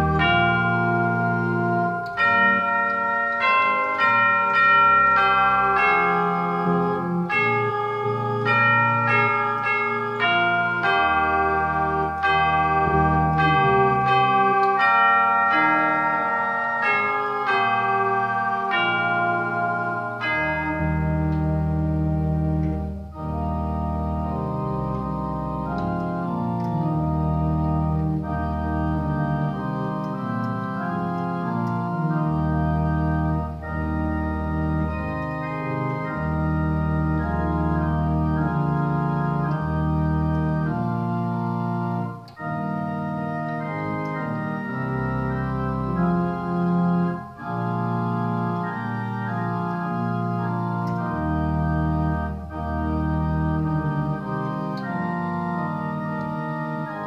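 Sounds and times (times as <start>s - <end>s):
church organ playing a hymn: 0.0s - 57.0s.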